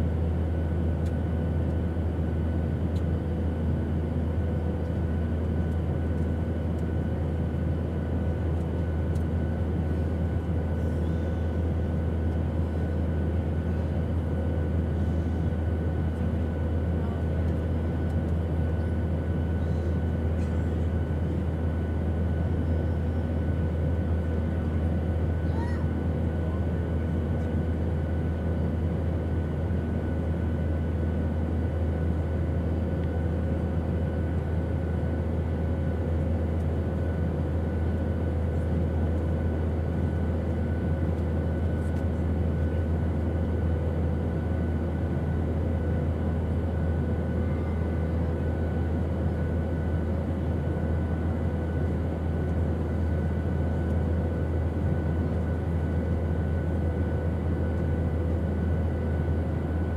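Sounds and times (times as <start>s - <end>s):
airplane engine drone: 0.0s - 59.9s.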